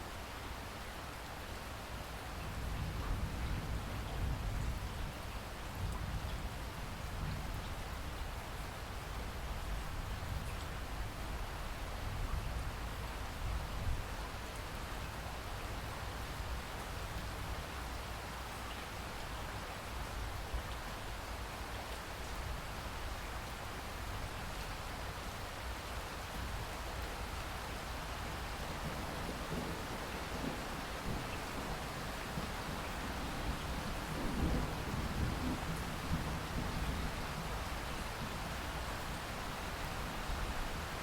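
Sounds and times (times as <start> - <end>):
steady rain hissing: 0.0 - 41.0.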